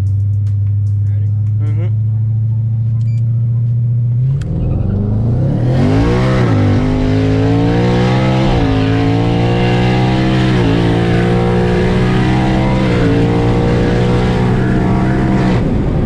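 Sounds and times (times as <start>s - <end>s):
car engine at full throttle: 0.0s - 16.0s.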